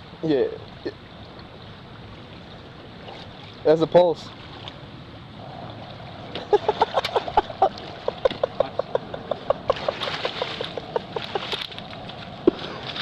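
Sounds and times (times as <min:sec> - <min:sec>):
muddy water gurgling and sloshing: 0:00.0 - 0:13.0.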